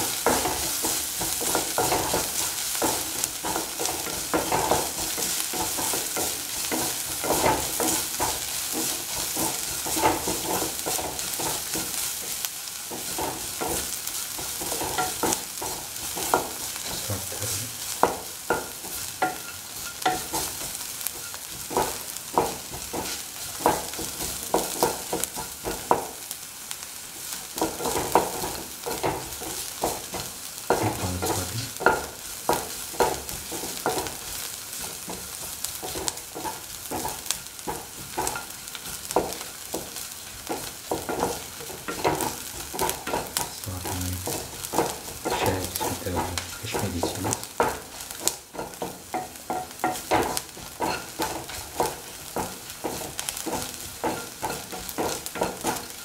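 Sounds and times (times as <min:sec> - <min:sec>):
food sizzling in hot oil: 0:00.0 - 0:56.0
utensil scraping a pan: 0:00.2 - 0:25.5, 0:27.6 - 0:56.0.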